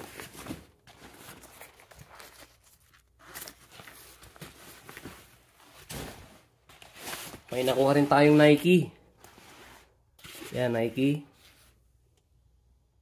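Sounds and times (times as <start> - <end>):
padded fabric rustling: 0.0 - 11.8.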